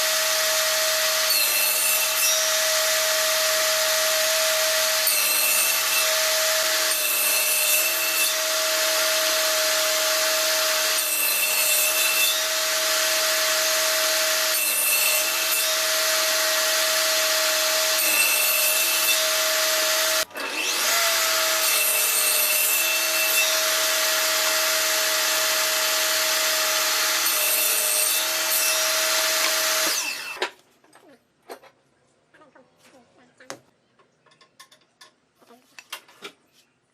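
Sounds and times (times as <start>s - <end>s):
table saw running: 0.0s - 30.4s
saw cutting wood: 0.0s - 30.6s.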